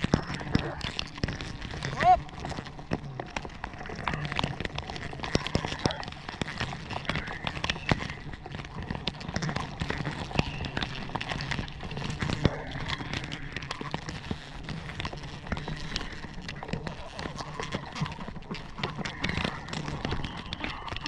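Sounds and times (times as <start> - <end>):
rapid irregular clicks: 0.0 - 21.0.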